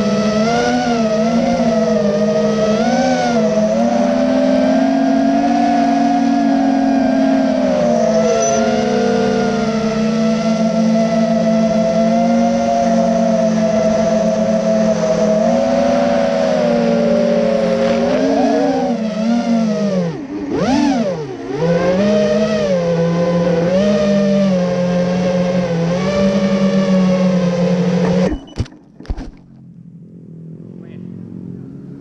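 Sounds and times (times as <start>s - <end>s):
quadcopter motors whining: 0.0s - 28.5s.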